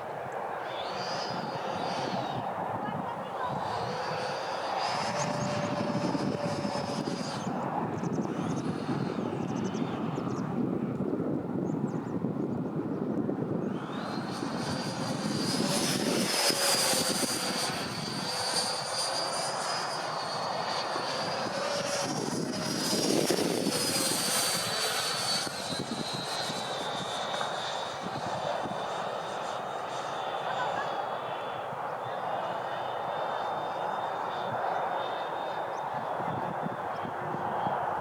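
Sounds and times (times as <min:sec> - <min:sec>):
model jet fan whine: 0:00.0 - 0:38.0.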